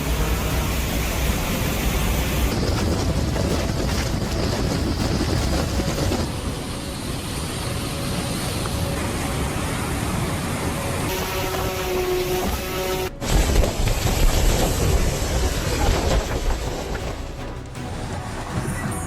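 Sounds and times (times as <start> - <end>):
floodwater roaring: 0.0 - 19.0
wind buffeting microphone: 0.0 - 19.0.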